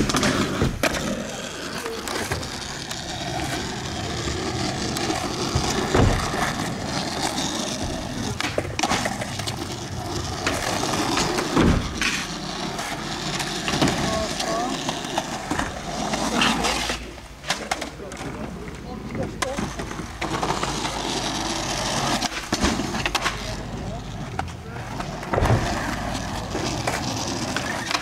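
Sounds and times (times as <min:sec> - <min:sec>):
skateboard clacks and thuds: 0:00.0 - 0:16.7, 0:19.1 - 0:28.0
skateboard wheels rolling on asphalt: 0:00.0 - 0:28.0.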